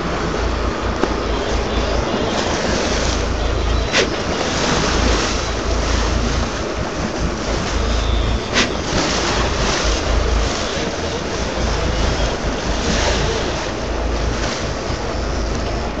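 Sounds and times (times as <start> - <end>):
sea washing around boat: 0.0 - 16.0
wind rumbling on microphone: 0.0 - 16.0.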